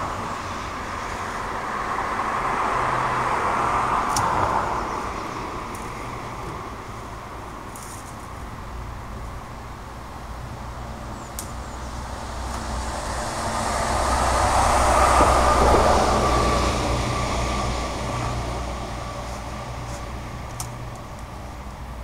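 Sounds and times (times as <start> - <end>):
vehicle passing by: 0.0 - 7.6, 10.3 - 20.9.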